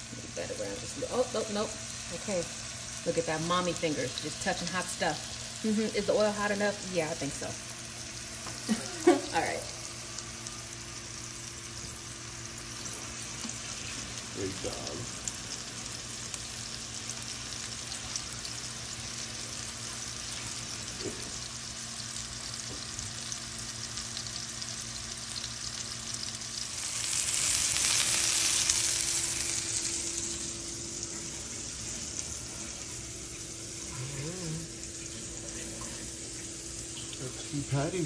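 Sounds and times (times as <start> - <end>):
patties sizzling in oil: 0.0 - 38.0.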